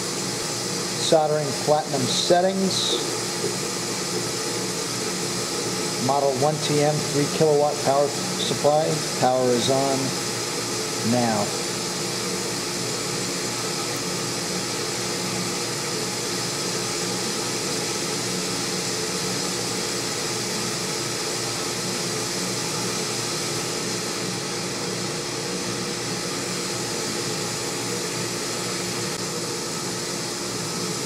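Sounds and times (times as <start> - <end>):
equipment fan hum and hiss: 0.0 - 31.0.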